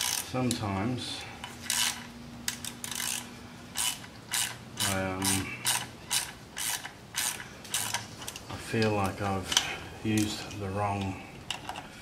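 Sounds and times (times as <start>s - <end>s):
hand ratchet clicking: 0.0s - 0.6s, 1.4s - 11.8s.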